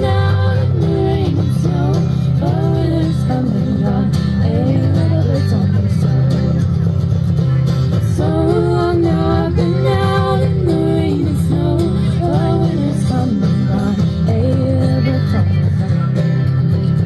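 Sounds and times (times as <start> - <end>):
acoustic guitar: 0.0 - 17.0
banjo: 0.0 - 17.0
upright bass: 0.0 - 17.0.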